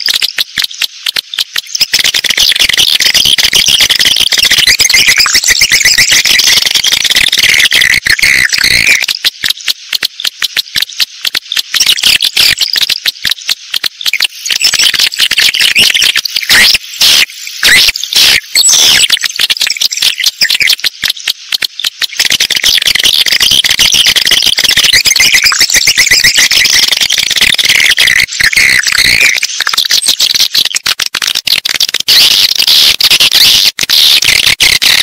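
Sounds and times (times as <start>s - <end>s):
swiftlets twittering and clicking: 0.0s - 35.0s.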